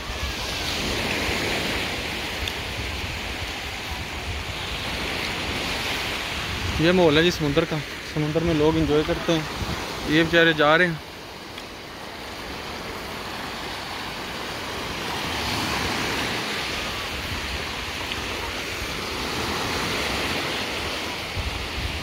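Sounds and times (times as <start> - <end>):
waves breaking on sandy beach: 0.0 - 22.0
wind rumbling on microphone: 0.0 - 22.0.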